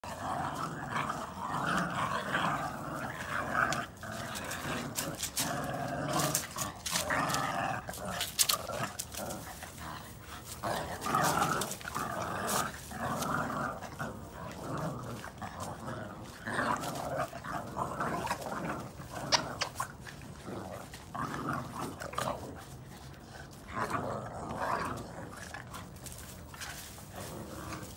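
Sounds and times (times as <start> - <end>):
puppies growling in play: 0.0 - 27.9.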